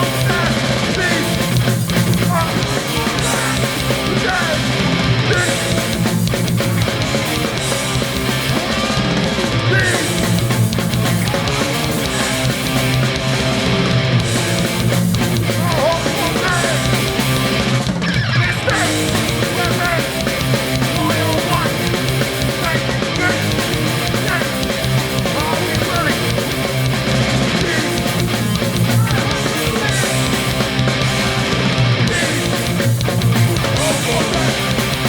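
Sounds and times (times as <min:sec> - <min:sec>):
bass guitar: 0:00.0 - 0:35.0
distorted electric guitars: 0:00.0 - 0:35.0
drums: 0:00.0 - 0:35.0.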